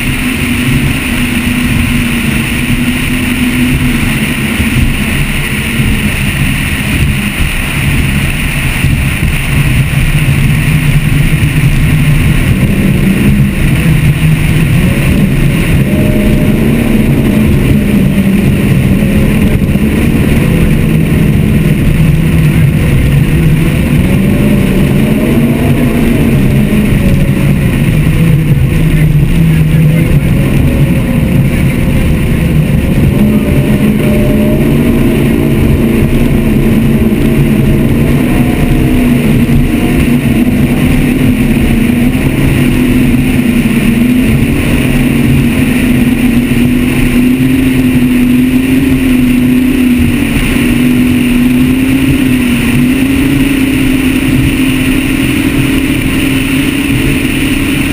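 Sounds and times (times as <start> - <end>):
powerboat engines droning: 0.0 - 57.9
wind and water rush: 0.0 - 57.9.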